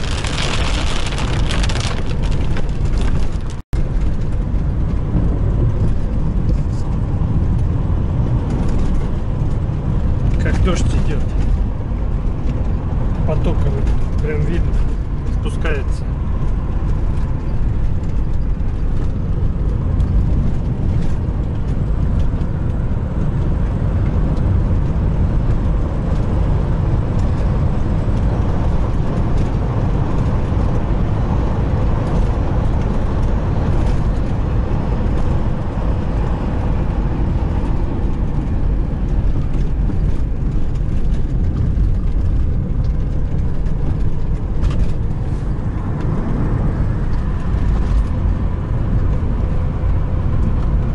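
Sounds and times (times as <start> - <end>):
car road and engine noise: 0.0 - 50.9.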